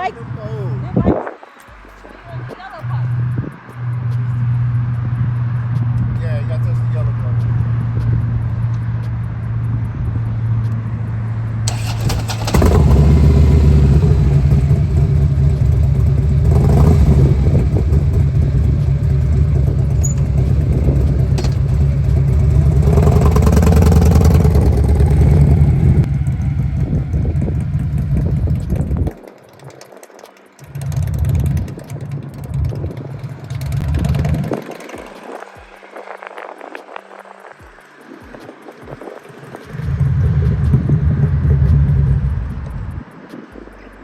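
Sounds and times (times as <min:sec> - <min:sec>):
motorcycle engine running: 0:02.2 - 0:37.0, 0:37.6 - 0:44.0.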